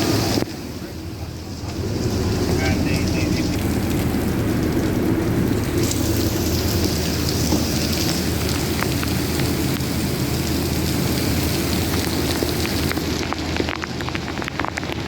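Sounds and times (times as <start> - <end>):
heavy rain pouring: 0.0 - 15.0
low rumble: 0.0 - 15.0
raindrops tapping: 0.0 - 15.0.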